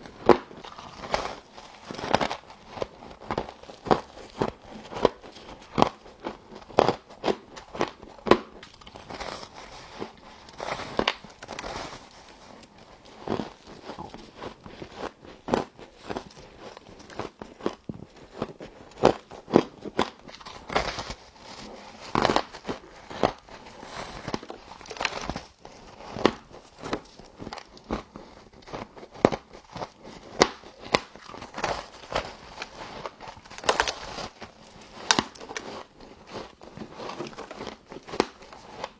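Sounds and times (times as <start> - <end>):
chewing crunchy frost: 0.0 - 38.9.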